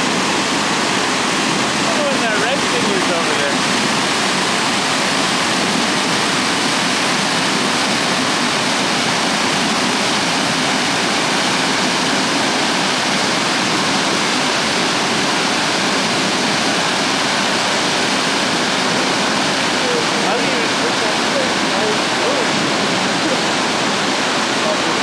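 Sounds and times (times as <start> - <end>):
waterfall splashing onto boulders: 0.0 - 25.0.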